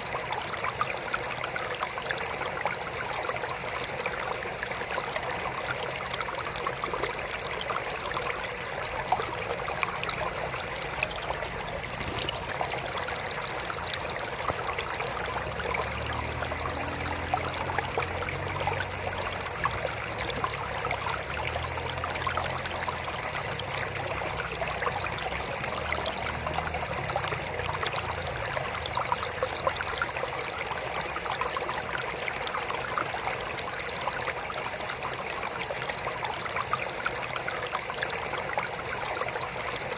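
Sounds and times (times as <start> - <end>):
water trickling in aquarium feature: 0.0 - 39.9.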